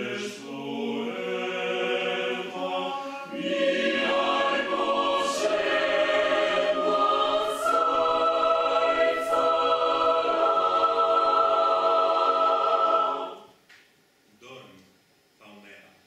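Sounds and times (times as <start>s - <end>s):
choir singing sustained chords: 0.0s - 13.6s.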